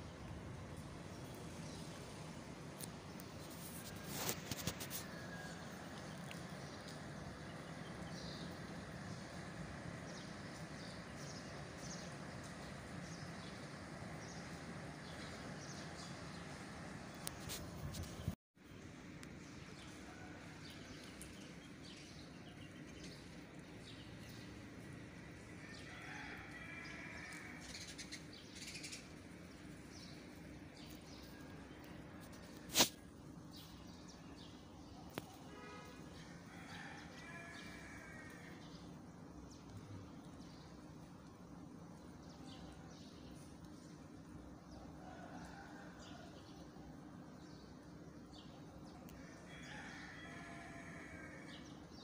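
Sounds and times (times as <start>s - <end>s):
light rain on wet pavement: 0.0s - 52.0s.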